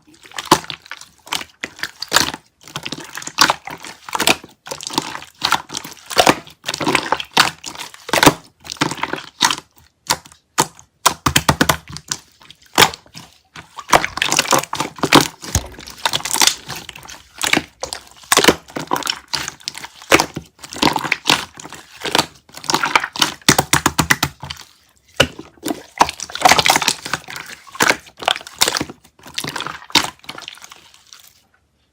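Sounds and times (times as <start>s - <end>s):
jelly crackling and sticky clicking: 0.1s - 31.4s.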